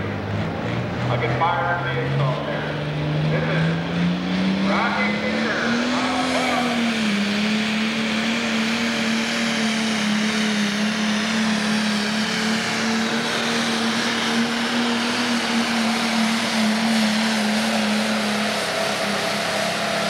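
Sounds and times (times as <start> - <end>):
diesel engine droning under load: 0.0 - 20.0.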